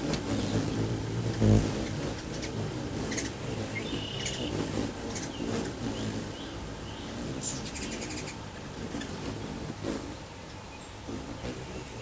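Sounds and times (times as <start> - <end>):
hummingbirds chipping and twittering: 0.0 - 12.0
steady low hum: 0.0 - 12.0.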